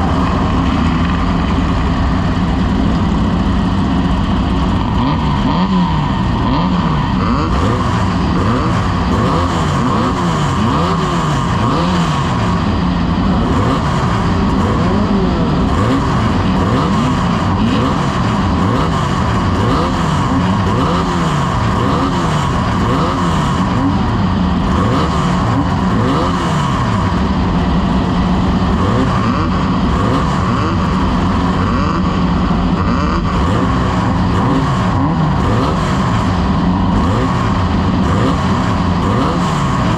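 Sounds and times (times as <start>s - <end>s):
race vehicle engines revving: 0.0s - 39.9s.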